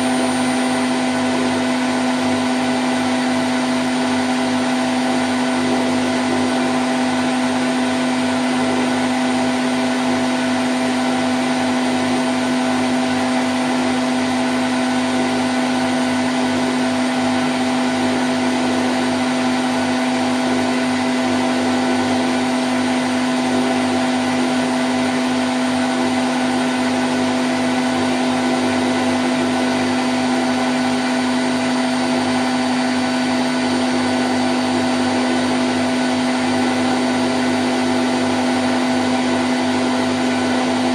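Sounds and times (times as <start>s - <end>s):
washing machine spinning: 0.0s - 40.9s.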